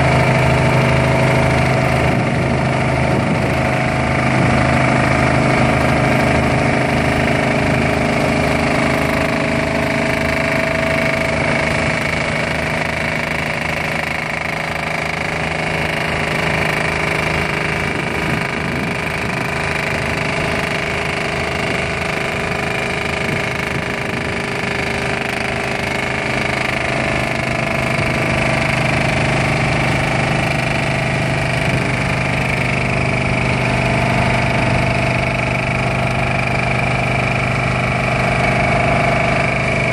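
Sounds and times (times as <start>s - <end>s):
power pack engine: 0.0s - 39.9s
vibratory hammer running: 0.0s - 39.9s.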